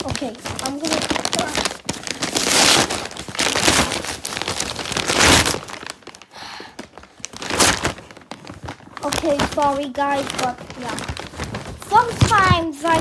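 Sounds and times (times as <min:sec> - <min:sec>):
packaging wrapper crinkling and tearing: 0:00.0 - 0:13.0.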